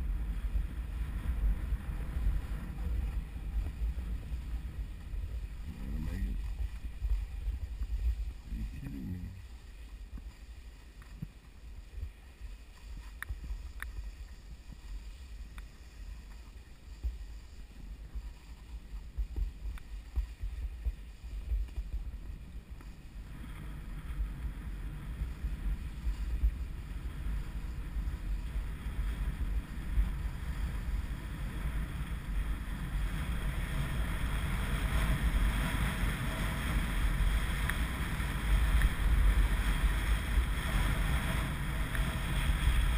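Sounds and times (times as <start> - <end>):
wind rumbling on microphone: 0.0 - 42.9.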